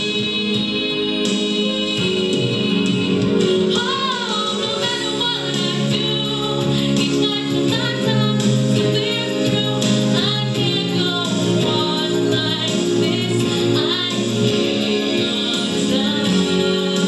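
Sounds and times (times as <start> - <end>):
instrumental accompaniment: 0.0 - 17.0
woman singing pop ballad: 0.0 - 17.0.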